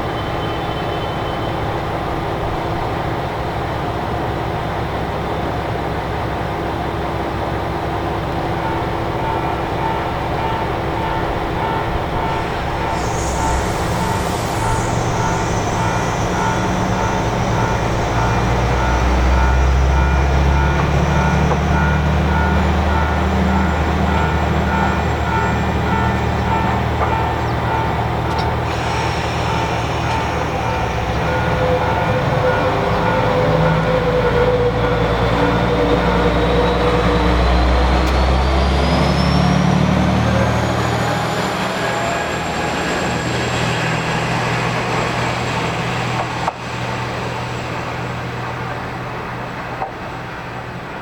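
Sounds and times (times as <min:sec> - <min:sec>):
diesel engine revving: 0:07.8 - 0:50.9.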